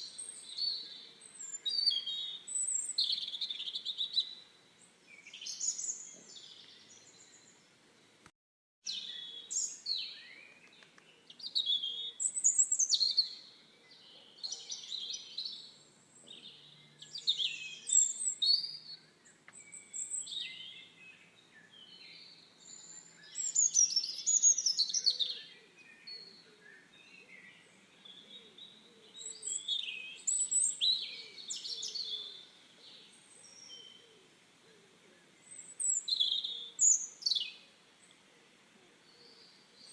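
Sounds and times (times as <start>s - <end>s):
songbirds chirping and singing: 0.0s - 8.2s, 8.8s - 39.9s.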